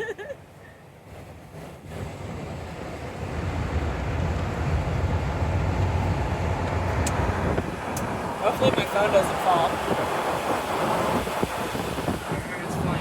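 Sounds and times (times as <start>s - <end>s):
wind and road noise: 0.0s - 13.0s
fire engine engine pulling: 0.9s - 13.0s.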